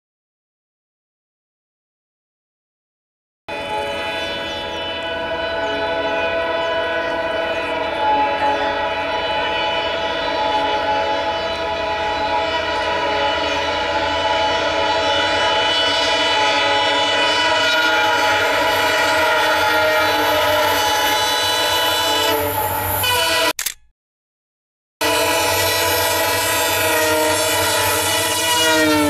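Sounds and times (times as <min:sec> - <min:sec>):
train approaching: 0:03.5 - 0:23.1, 0:25.0 - 0:29.0.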